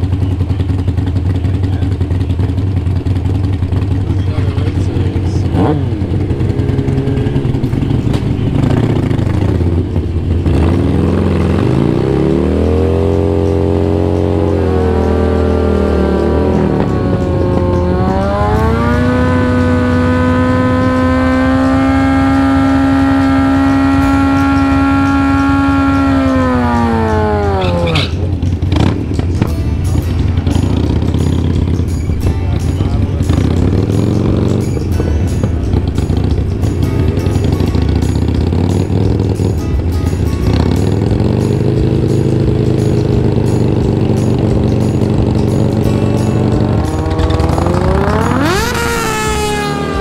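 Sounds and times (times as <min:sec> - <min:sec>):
motorcycle engine revving: 0:00.0 - 0:50.0
motorcycles idling: 0:00.0 - 0:50.0.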